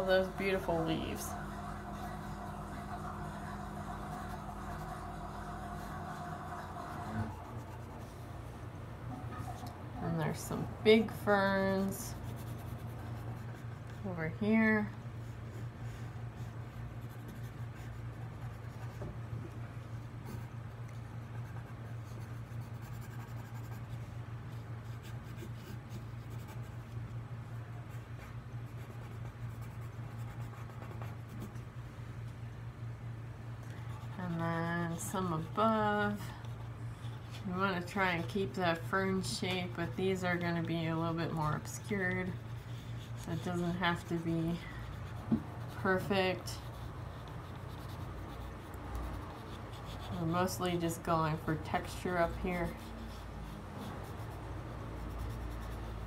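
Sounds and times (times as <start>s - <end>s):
pencil scratching on paper: 0.0s - 8.3s, 10.3s - 19.1s, 21.3s - 27.0s, 27.9s - 31.6s, 33.9s - 56.0s
steady low hum: 0.0s - 56.0s.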